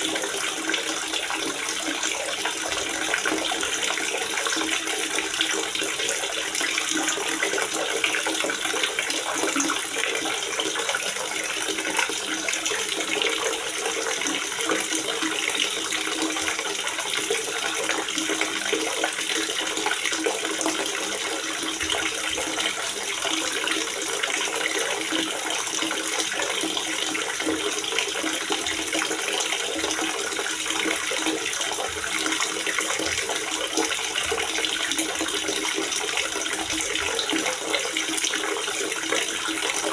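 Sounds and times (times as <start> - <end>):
water gurgling and splashing: 0.0 - 39.9.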